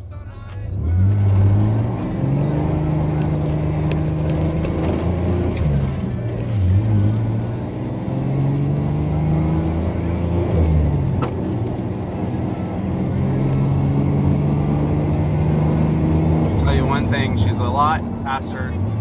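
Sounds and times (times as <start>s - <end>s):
truck engine accelerating: 0.0s - 19.0s.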